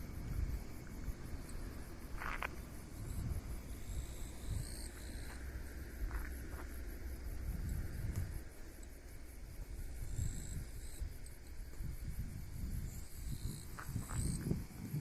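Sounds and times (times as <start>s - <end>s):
insects chirping: 0.0s - 15.0s
wind rumble on microphone: 0.0s - 15.0s.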